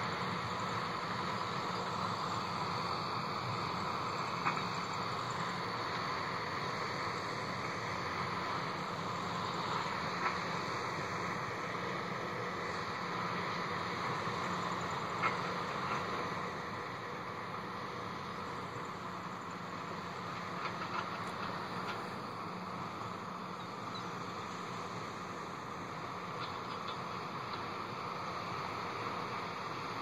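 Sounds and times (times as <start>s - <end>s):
farm machinery engines droning: 0.0s - 30.0s.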